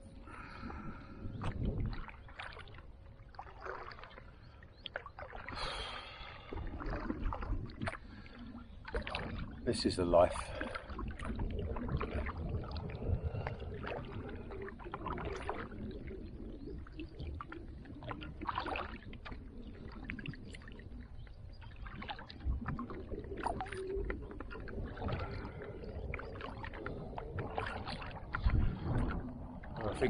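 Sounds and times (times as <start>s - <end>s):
paddle splashing in water: 0.4s - 30.0s.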